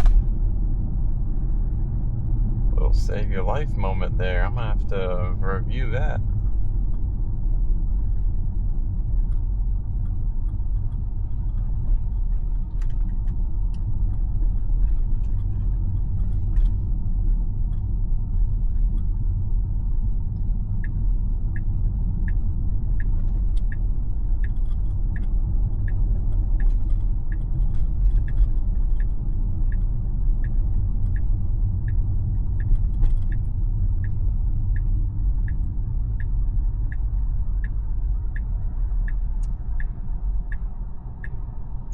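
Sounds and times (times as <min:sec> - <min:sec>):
road and tyre rumble: 0:00.0 - 0:41.9
turn signal ticking: 0:00.0 - 0:41.9.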